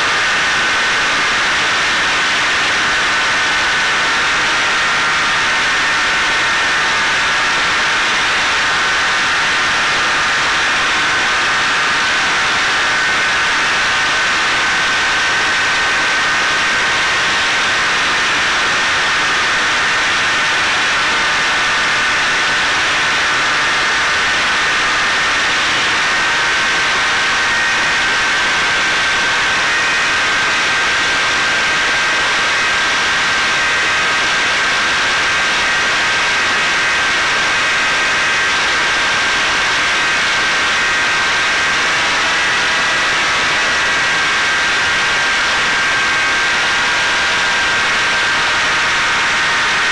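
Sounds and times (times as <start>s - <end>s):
drone motor high whine: 0.0s - 49.9s.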